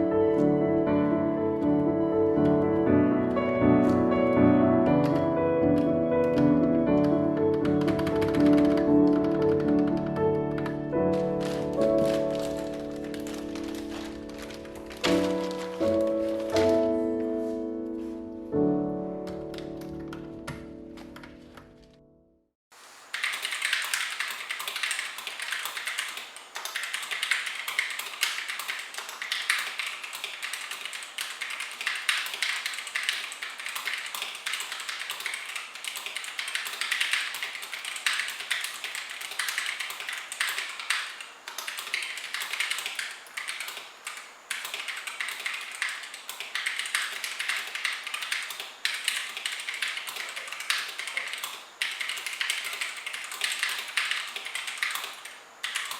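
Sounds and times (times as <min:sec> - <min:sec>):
mechanical keyboard typing: 0:01.2 - 0:17.3, 0:19.1 - 0:21.9, 0:23.1 - 0:55.9.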